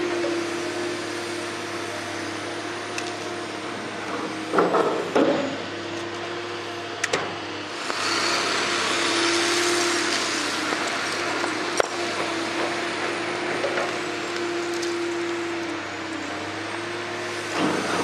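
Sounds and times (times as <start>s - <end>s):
material handler machine drone: 0.0s - 18.0s.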